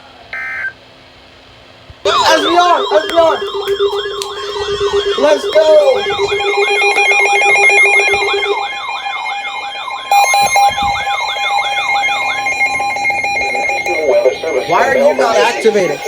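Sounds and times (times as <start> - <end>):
long steady tone: 2.0 - 16.0
beeping tones: 2.1 - 16.0
siren-like sweep: 2.1 - 16.0.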